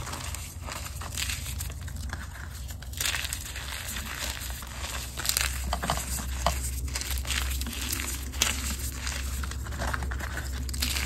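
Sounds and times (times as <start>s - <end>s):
hands crushing chalk: 0.0s - 11.0s
steady low hum: 0.0s - 11.0s.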